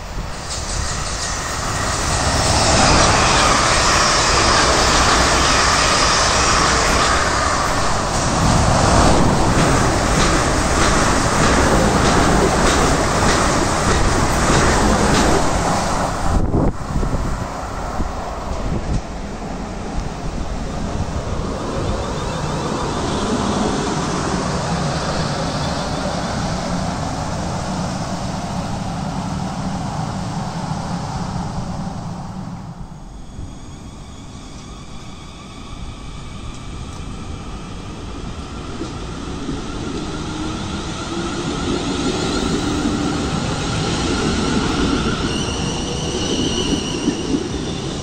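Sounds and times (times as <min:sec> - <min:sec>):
train passing at speed: 0:00.0 - 0:48.0.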